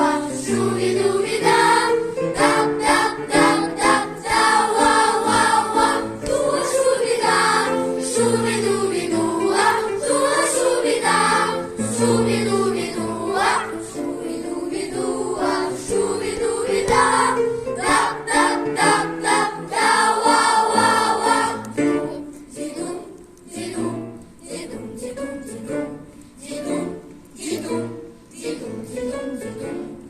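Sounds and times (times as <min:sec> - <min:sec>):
choir singing wordless melody: 0:00.0 - 0:30.0.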